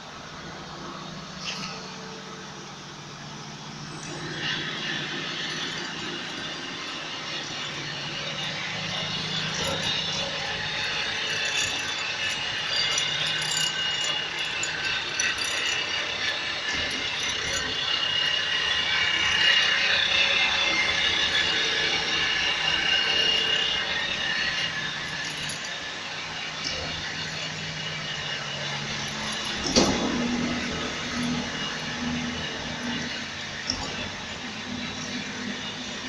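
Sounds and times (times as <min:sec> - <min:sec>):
stone-cutting saw whining and grinding: 0:03.6 - 0:36.0.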